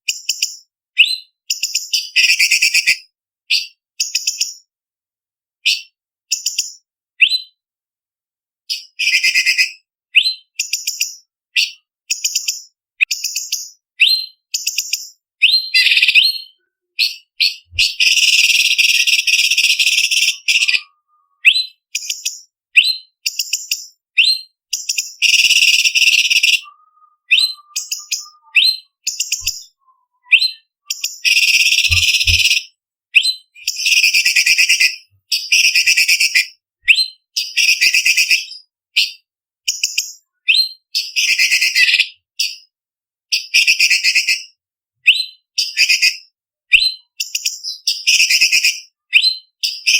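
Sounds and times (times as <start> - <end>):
bird whistling and chattering: 2.0 - 4.2, 5.6 - 5.9, 7.2 - 7.5, 8.7 - 11.0, 11.6 - 14.8, 15.4 - 42.6, 45.0 - 49.9.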